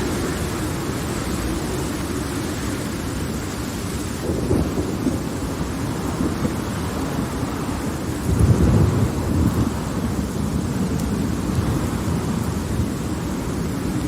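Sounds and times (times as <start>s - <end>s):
steady rainfall: 0.0s - 14.0s
thunder rumbling: 0.0s - 14.0s.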